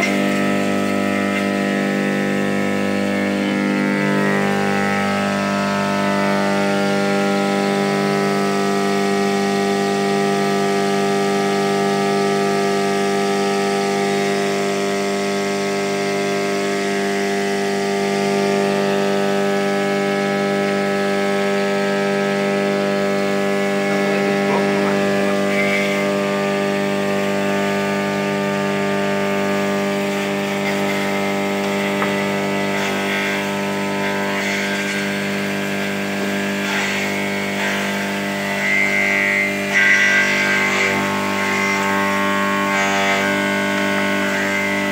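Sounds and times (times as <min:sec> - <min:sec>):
electric motor hum: 0:00.0 - 0:44.9.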